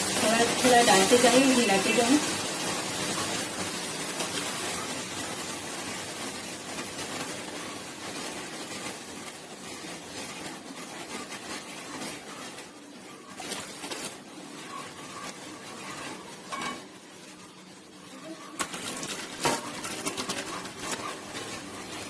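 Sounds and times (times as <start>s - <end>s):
milk sizzling in hot pan: 0.0s - 22.0s.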